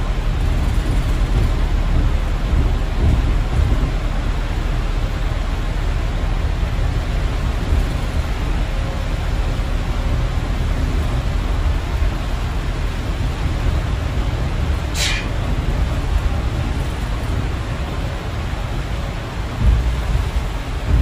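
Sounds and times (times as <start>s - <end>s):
bus engine rumble: 0.0s - 21.0s
rain on windscreen: 0.0s - 21.0s.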